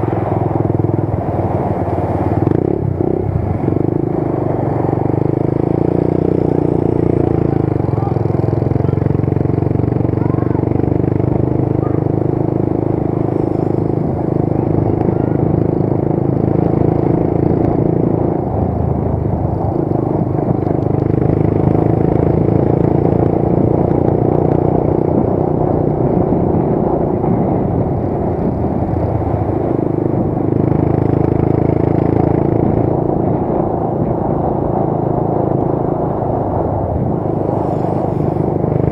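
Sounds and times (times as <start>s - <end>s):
motorcycle engine running: 0.0s - 38.9s
road and wind noise: 0.0s - 38.9s.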